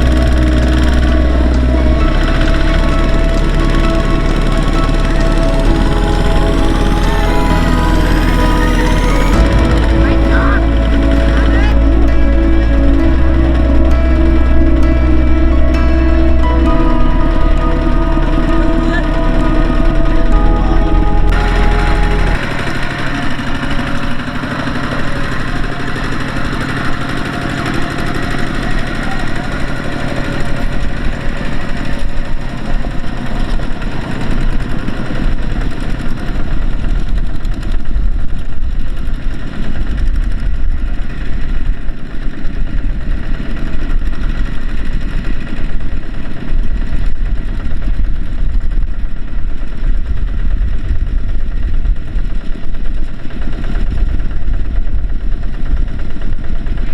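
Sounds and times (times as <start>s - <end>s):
heavy machinery diesel engine running: 0.0s - 56.9s.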